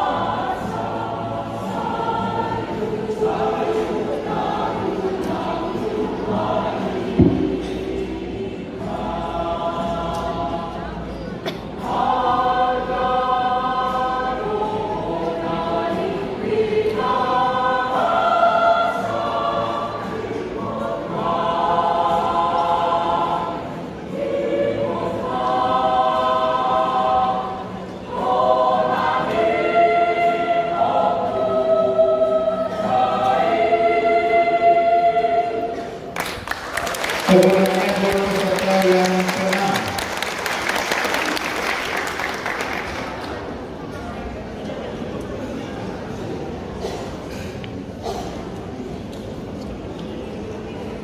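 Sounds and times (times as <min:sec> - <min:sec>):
choir singing unaccompanied: 0:00.0 - 0:44.0.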